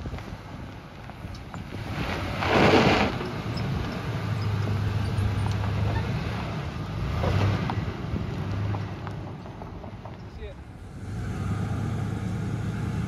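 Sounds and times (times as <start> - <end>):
tyres crunching over gravel: 0.0 - 10.7
pickup truck engine humming: 0.0 - 13.0.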